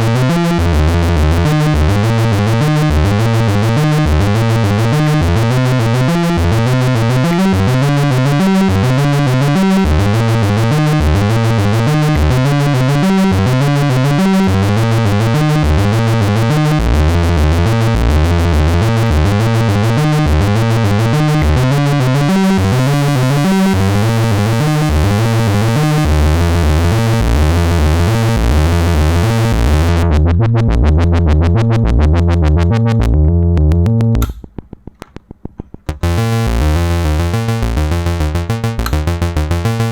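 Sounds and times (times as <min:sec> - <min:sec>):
synthesizer bass riff: 0:00.0 - 0:34.9, 0:35.8 - 0:39.9.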